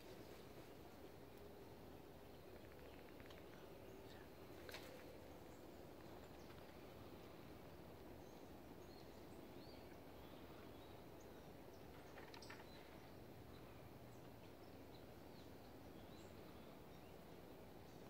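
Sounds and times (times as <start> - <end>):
low wind hiss: 0.0 - 18.0
distant bird chirps: 1.9 - 18.0.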